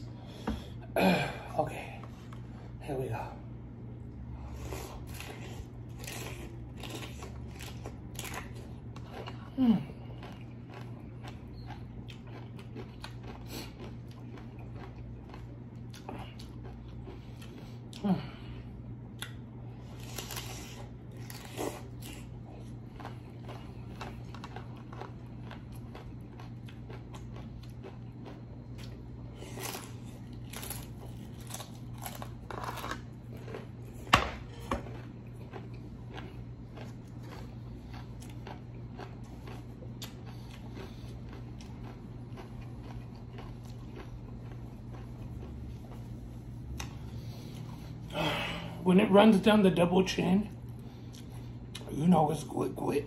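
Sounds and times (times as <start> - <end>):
faint steady hum: 0.0 - 53.0
crunchy chewing: 4.0 - 48.1, 50.6 - 52.0.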